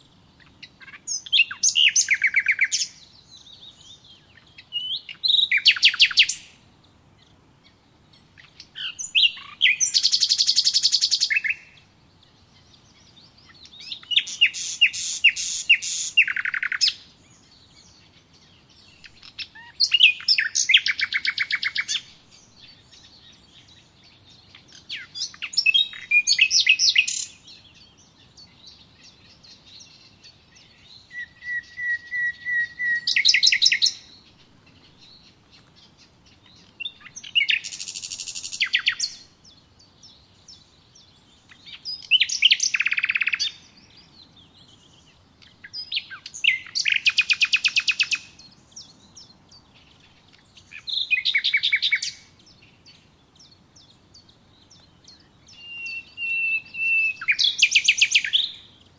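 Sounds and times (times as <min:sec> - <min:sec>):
faint bird chirps: 0:00.0 - 0:58.9
songbirds trilling: 0:00.0 - 0:58.9.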